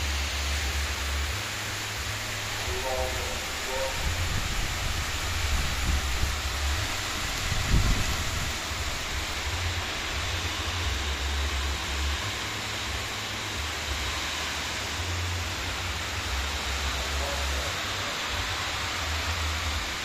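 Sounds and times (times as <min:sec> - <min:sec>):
heavy rain pouring: 0:00.0 - 0:20.0
low rumble: 0:00.0 - 0:20.0.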